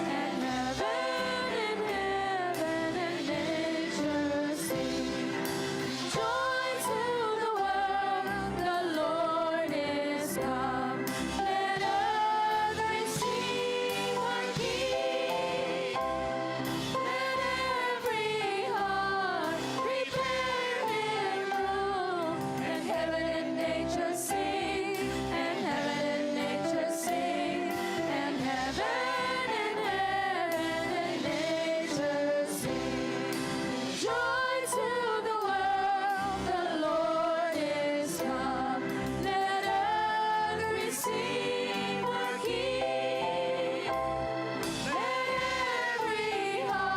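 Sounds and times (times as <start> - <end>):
choir singing gospel song: 0.0 - 46.9
instrumental accompaniment with beat: 0.0 - 46.9.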